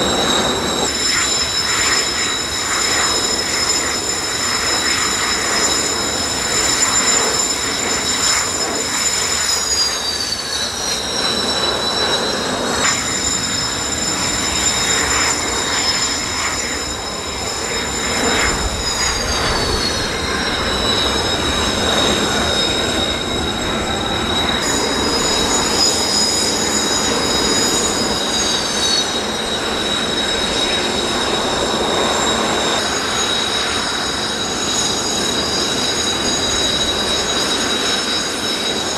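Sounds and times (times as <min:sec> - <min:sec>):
jet engine roar: 0:00.0 - 0:38.9
jet engines whining: 0:00.0 - 0:38.9.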